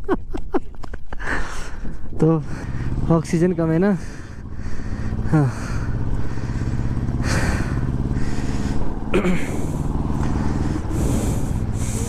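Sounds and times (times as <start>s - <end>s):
motorcycle engine running: 1.6s - 12.0s.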